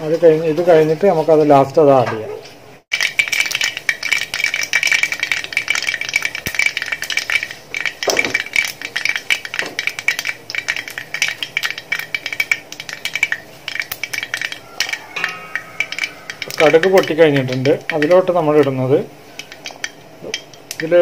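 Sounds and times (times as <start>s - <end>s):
oil sizzling: 0.0s - 2.0s, 2.6s - 21.0s
mustard seeds popping in oil: 2.9s - 21.0s.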